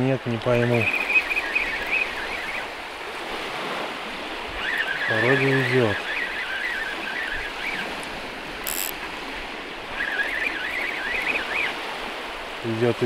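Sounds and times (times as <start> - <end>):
small waves washing on shore: 0.0 - 13.0
wind: 0.0 - 13.0.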